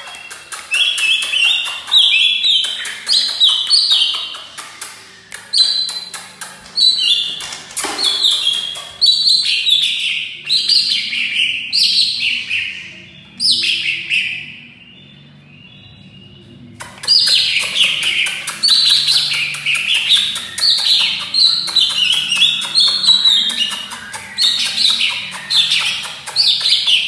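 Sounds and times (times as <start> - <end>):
bird singing chattering phrases: 0.0 - 27.0.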